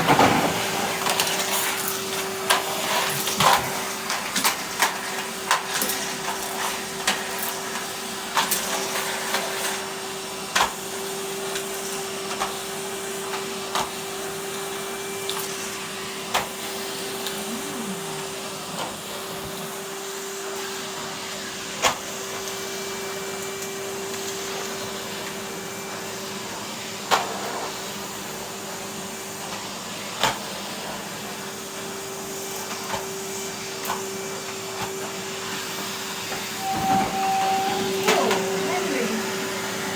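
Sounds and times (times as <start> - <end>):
vacuum cleaner humming: 0.0 - 39.9.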